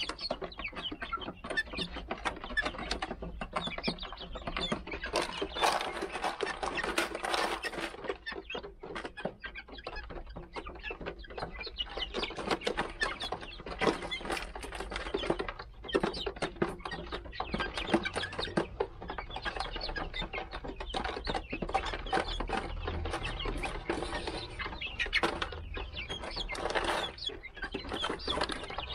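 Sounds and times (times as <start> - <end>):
chickens clucking: 0.0 - 28.9
chickens pecking at gravel: 0.0 - 28.9.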